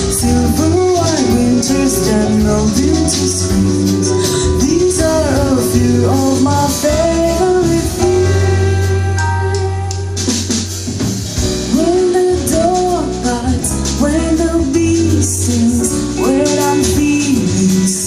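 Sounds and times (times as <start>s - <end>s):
woman singing: 0.0s - 10.3s, 11.6s - 18.0s
drum kit: 0.0s - 18.0s
guitar: 0.0s - 18.0s
low bass notes: 0.0s - 18.0s.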